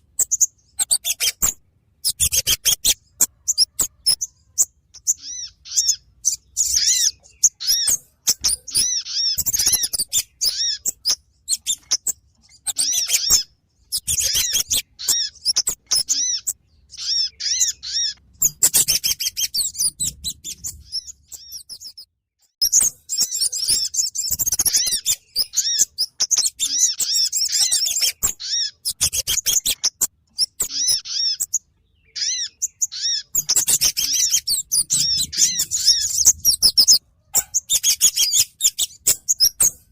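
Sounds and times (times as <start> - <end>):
recorded bird calls chirping: 0.0 - 39.9.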